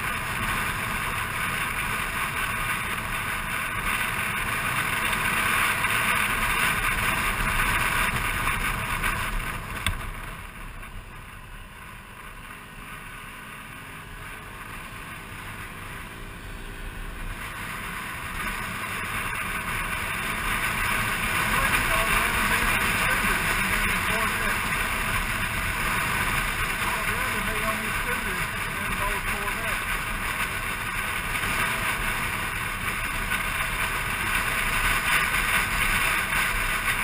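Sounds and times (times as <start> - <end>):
scooter engine: 0.0 - 37.0.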